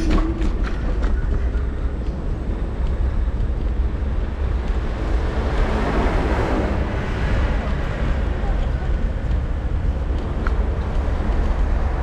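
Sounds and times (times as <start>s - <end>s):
wheels rumbling over pavement: 0.0s - 12.0s
wind buffeting microphone: 0.0s - 12.0s.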